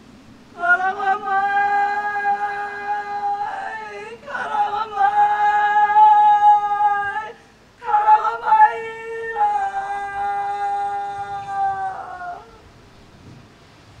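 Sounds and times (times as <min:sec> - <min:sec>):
woman singing long notes: 0:00.5 - 0:12.8.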